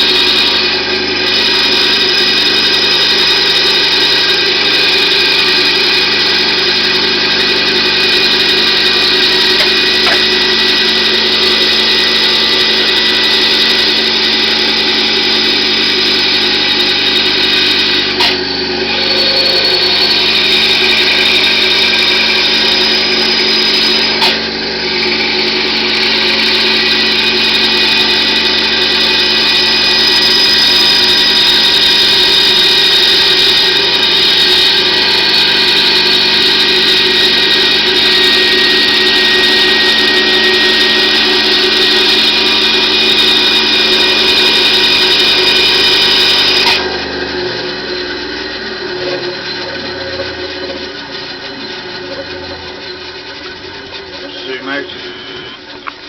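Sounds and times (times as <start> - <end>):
bandsaw cutting plywood: 0.0 - 56.0.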